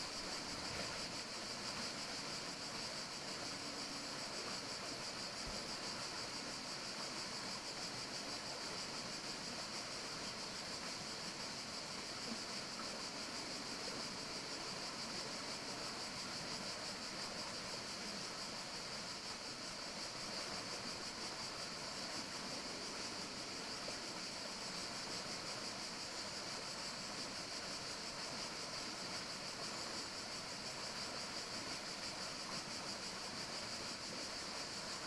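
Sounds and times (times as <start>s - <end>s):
even hiss: 0.0s - 35.0s.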